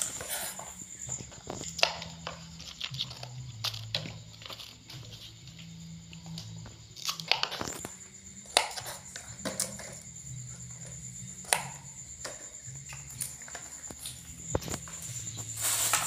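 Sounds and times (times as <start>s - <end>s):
vegetable stems crunching: 0.0s - 16.0s.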